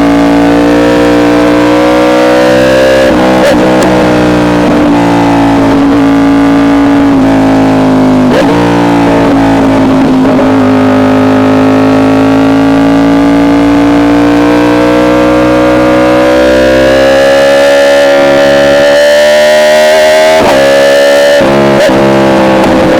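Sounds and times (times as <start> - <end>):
motorcycle engine at high revs: 0.0 - 22.9.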